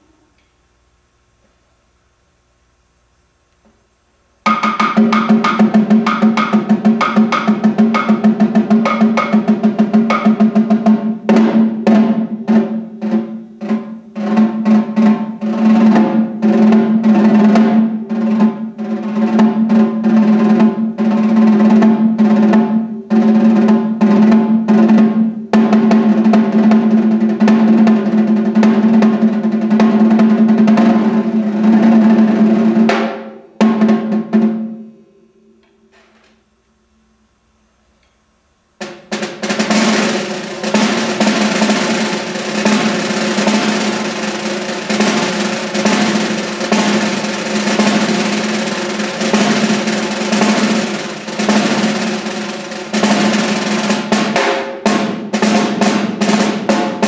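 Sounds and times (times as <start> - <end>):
snare drum played with sticks: 4.4 - 34.9, 38.8 - 57.0.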